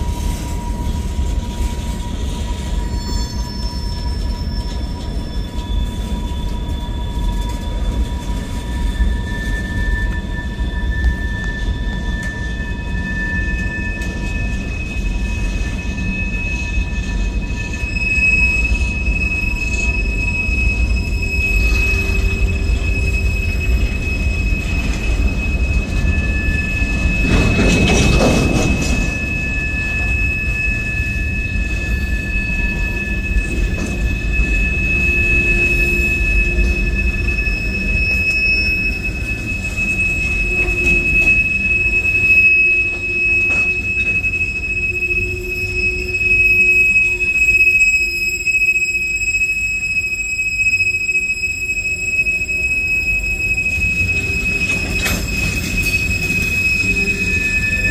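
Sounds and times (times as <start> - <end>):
freight cars rumbling on rails: 0.0 - 50.2, 51.5 - 57.9
high-pitched wheel squeal: 0.0 - 57.9.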